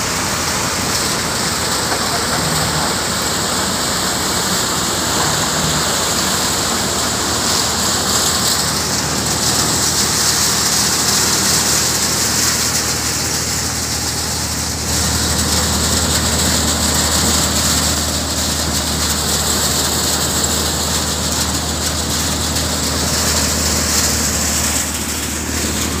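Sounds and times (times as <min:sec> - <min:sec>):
thresher mechanical drone: 0:00.0 - 0:26.0.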